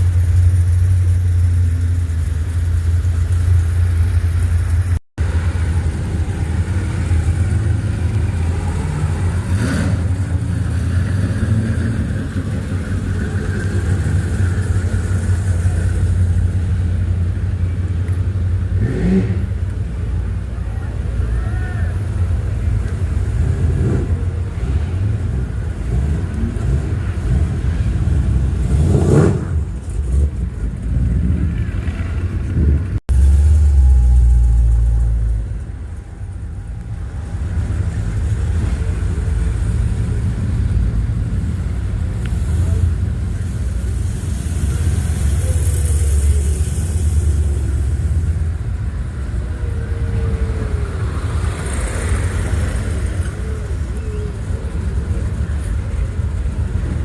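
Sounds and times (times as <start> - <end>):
car engines rumbling and revving: 0.0 - 57.0.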